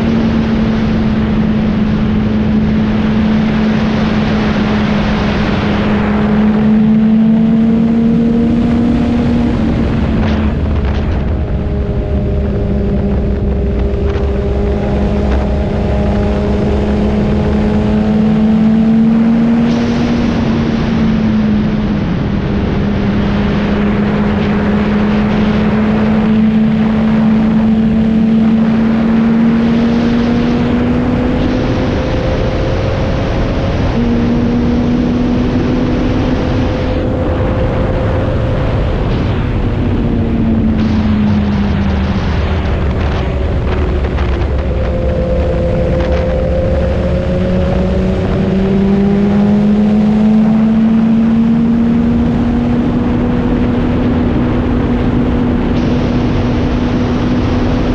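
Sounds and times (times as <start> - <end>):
low rumble: 0.0 - 57.9
motorcycle engine cruising: 0.0 - 57.9
wind rushing on microphone: 0.0 - 57.9.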